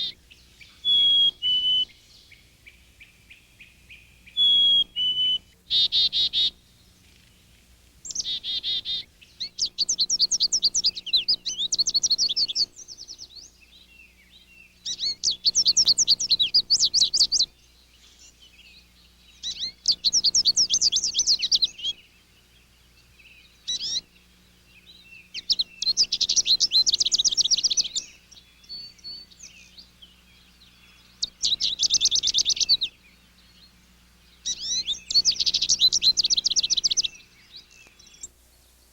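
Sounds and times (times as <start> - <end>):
songbird trilling: 0.0 - 38.4.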